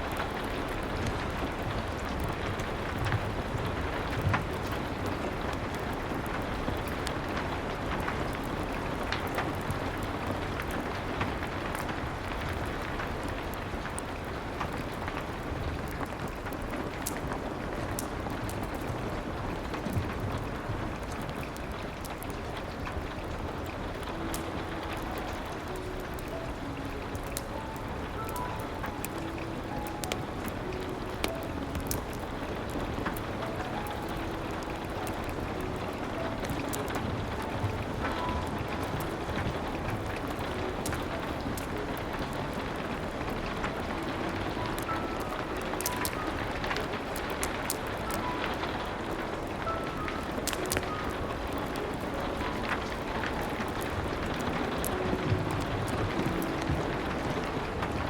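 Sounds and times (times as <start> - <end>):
soft piano notes: 0.0 - 58.0
steady rain: 0.0 - 58.0
wood fire crackling: 0.0 - 58.0.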